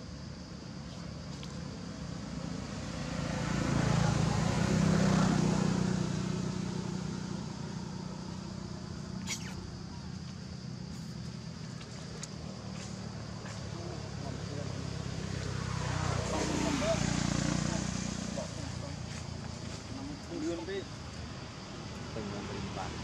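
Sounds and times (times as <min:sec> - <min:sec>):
vehicle engine passing: 0:01.6 - 0:23.0.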